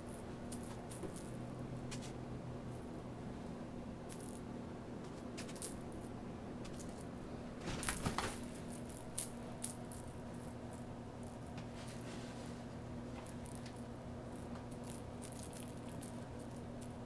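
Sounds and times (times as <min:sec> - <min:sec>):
kittens playing clicks and rustles: 0:00.0 - 0:17.0
low electrical hum: 0:00.0 - 0:17.0.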